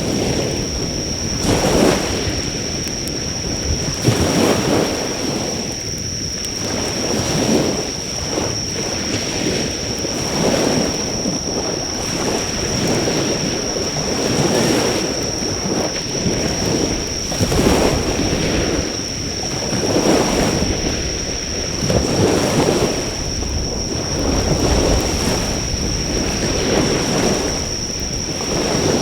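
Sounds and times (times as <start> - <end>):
faint fire crackling: 0.0 - 7.2, 7.8 - 29.0
high insect trill: 0.0 - 29.0
surf breaking on shore: 0.0 - 29.0.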